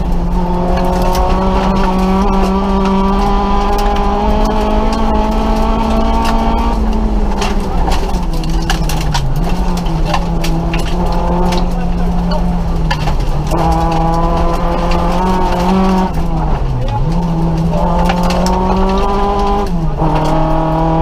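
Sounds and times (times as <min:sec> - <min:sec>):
car engine revving: 0:00.0 - 0:21.0
gravel clattering on car underside: 0:00.0 - 0:21.0.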